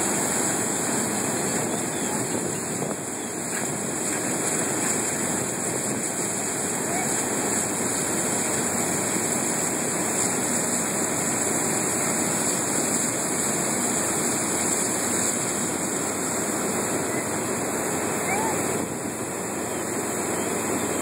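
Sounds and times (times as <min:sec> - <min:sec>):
fire hose spraying water: 0:00.0 - 0:21.0.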